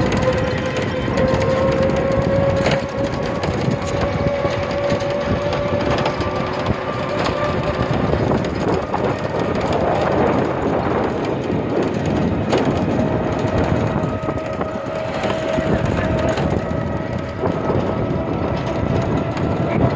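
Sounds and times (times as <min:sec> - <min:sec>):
moving vehicle rumble: 0:00.0 - 0:19.9.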